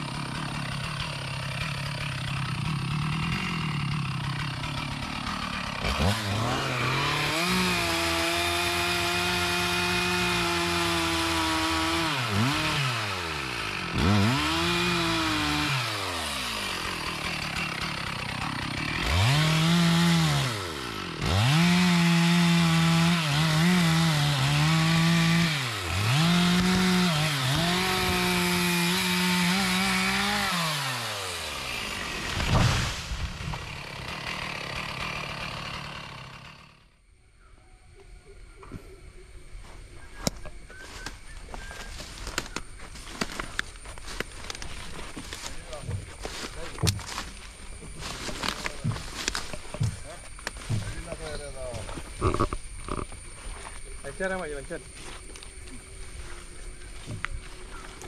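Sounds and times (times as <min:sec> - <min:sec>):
chainsaw cutting tree: 0:00.0 - 0:37.0, 0:40.2 - 0:58.0.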